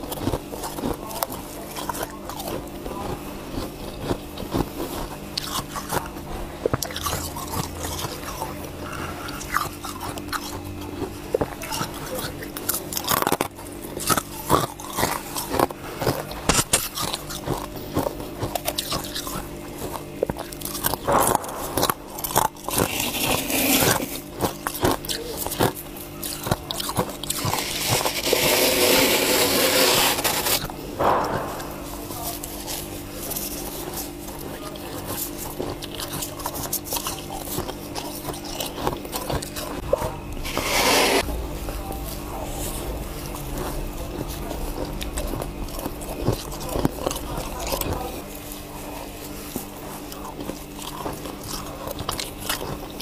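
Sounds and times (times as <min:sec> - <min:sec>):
ice crunching between teeth: 0:00.0 - 0:53.0
steady low hum: 0:00.0 - 0:53.0.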